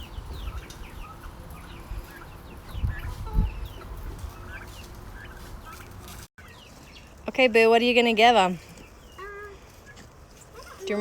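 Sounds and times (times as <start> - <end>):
chickens clucking: 0.0 - 7.2, 8.7 - 11.0
chicks peeping: 0.0 - 7.2, 8.7 - 11.0.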